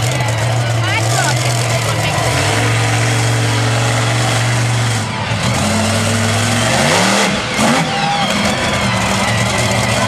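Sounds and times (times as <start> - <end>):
monster truck engine revving: 0.0 - 10.0.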